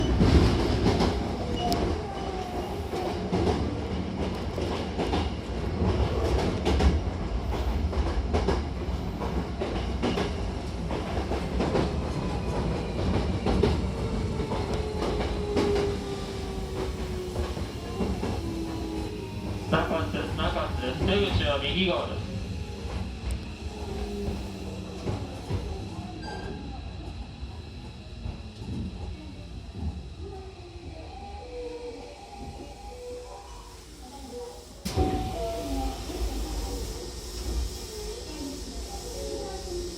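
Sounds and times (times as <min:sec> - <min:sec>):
electric train rumble: 0:00.0 - 0:39.9.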